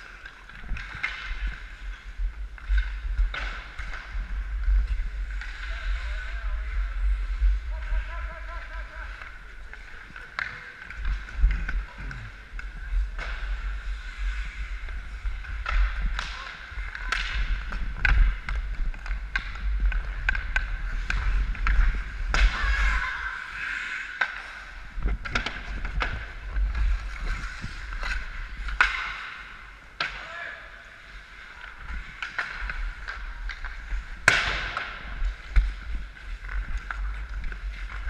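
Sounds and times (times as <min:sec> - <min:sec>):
hockey sticks clacking: 0:00.0 - 0:38.0
skates scraping on ice: 0:00.0 - 0:38.0.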